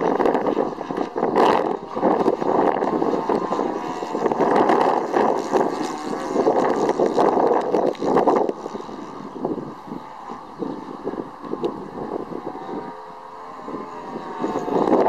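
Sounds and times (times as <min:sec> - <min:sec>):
distant model airplane engine drone: 0:00.0 - 0:15.0
wind buffeting microphone: 0:00.0 - 0:15.0.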